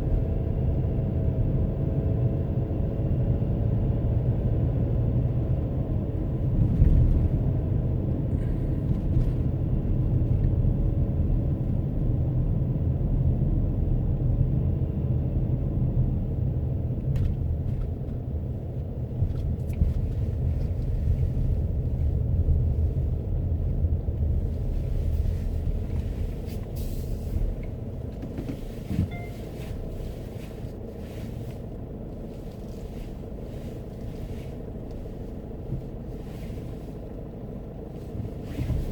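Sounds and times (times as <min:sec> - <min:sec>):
road and engine noise inside car: 0:00.0 - 0:38.9.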